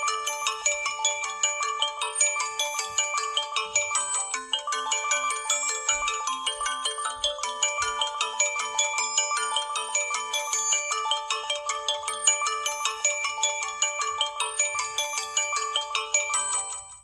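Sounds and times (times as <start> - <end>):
phone ringtone melody: 0.0 - 17.0.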